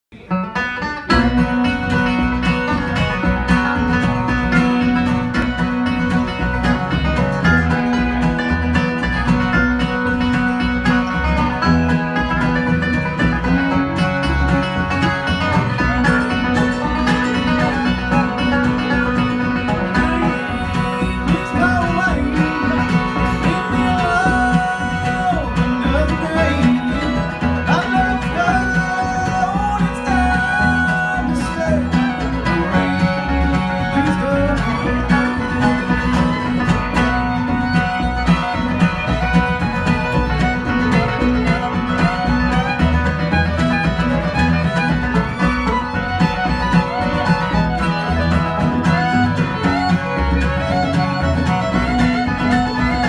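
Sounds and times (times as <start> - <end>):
bluegrass band playing: 0.1 - 53.0
fiddle sliding between notes: 1.1 - 53.0.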